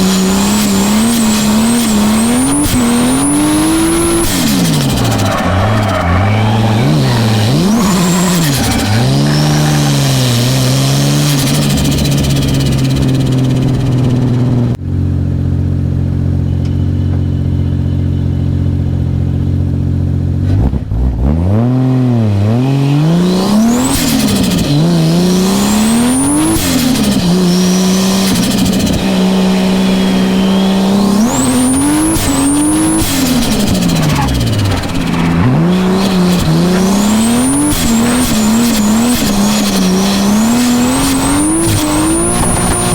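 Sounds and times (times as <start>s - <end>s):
car engine revving: 0.0s - 14.8s, 20.0s - 42.9s.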